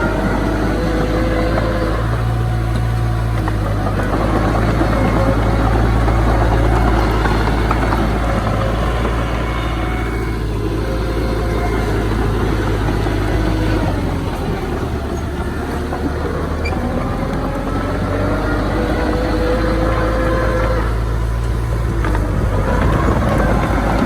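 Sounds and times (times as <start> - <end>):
heavy machinery diesel engine: 0.0 - 24.0.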